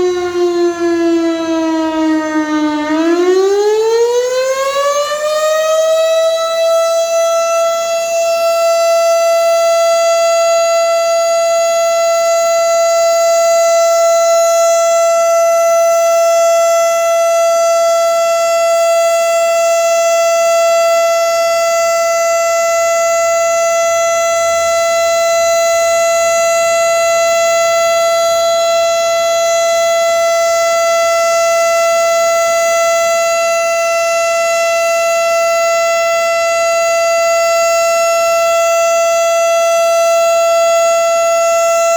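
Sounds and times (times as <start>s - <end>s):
warning siren steady tone: 0.0s - 41.9s.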